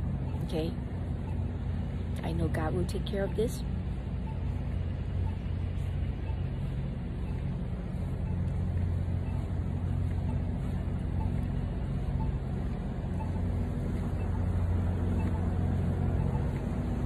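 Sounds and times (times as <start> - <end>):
road traffic hum: 0.0 - 17.0
vehicle engine droning: 0.0 - 17.0.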